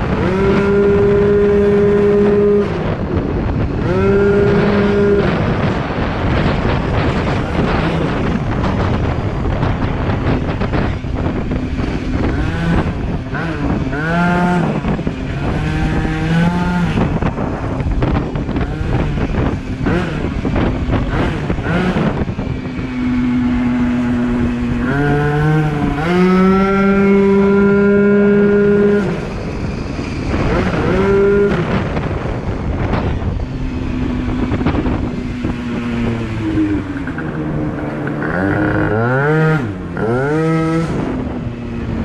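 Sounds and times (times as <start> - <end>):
scooter engine revving: 0.0 - 42.0
wind rushing over microphone: 0.0 - 42.0.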